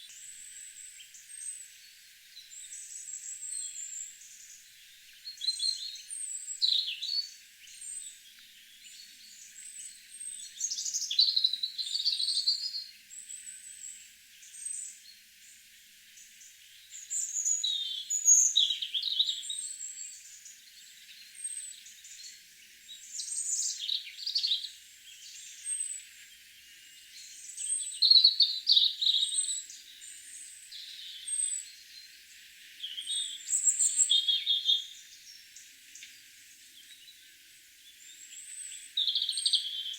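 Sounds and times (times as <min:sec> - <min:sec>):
songbirds chirping and warbling: 0:00.0 - 0:39.9.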